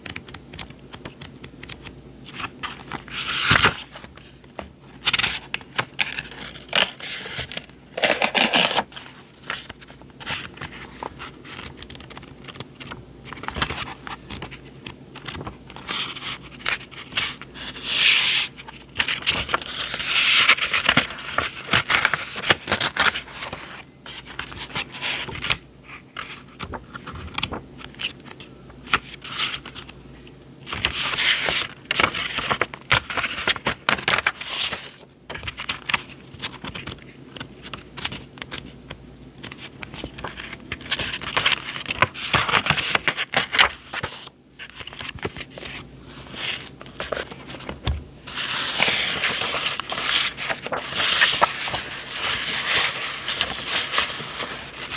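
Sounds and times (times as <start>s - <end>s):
paper rustling and crinkling: 0.0s - 30.0s, 30.6s - 54.9s.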